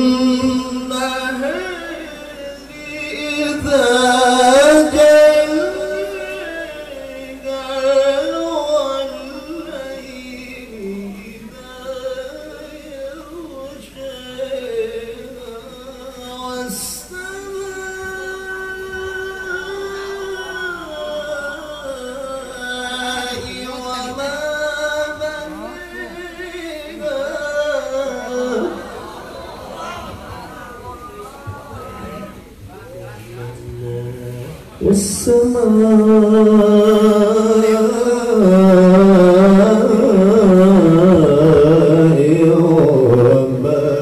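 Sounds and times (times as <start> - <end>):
man chanting melodic recitation: 0.0 - 29.4, 31.8 - 44.0.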